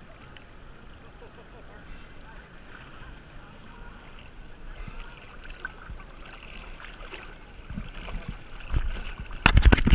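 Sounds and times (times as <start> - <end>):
water lapping and sloshing: 0.0 - 9.9.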